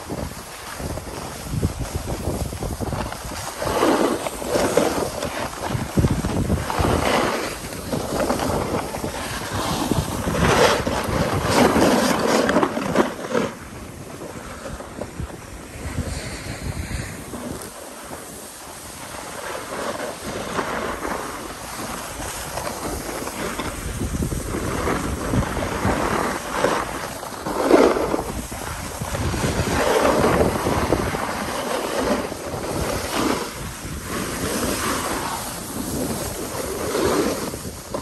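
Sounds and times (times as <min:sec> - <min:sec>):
snowboard scraping packed snow: 0:00.0 - 0:38.0
wind rushing over microphone: 0:00.0 - 0:38.0.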